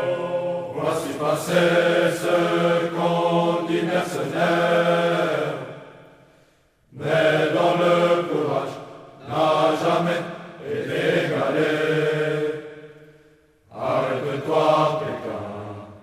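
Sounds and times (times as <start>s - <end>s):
male choir singing: 0.0s - 6.0s, 6.9s - 13.0s, 13.7s - 16.0s.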